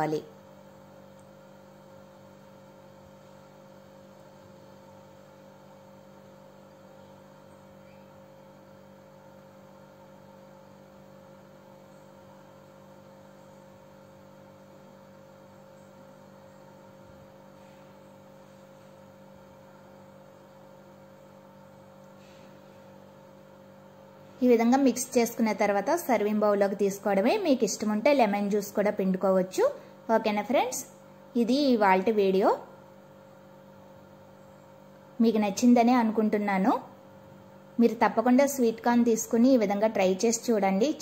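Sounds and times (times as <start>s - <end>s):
faint electrical hum: 0.0s - 41.0s.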